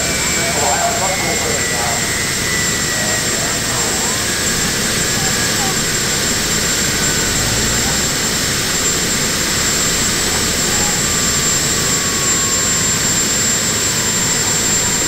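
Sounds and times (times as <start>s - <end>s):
turbine engines idling: 0.0s - 15.0s.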